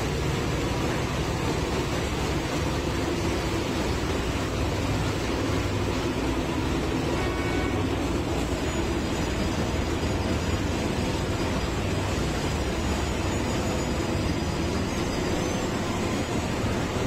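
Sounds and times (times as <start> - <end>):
machine engine drone and rumble: 0.0 - 17.0.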